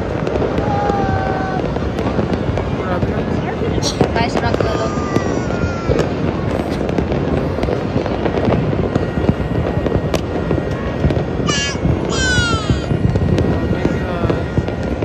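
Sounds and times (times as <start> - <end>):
firecrackers crackling: 0.0 - 15.0
sharp firework bangs: 0.0 - 15.0.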